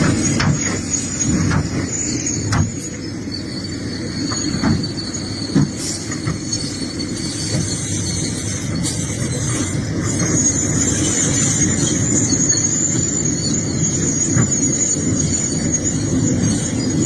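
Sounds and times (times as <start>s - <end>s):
high-pitched metallic squeal: 0.0s - 17.0s.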